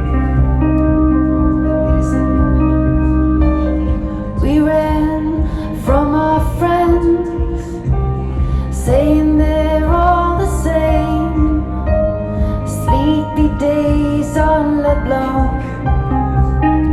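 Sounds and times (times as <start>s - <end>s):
deep bass line: 0.0s - 16.9s
woman singing: 0.0s - 16.9s.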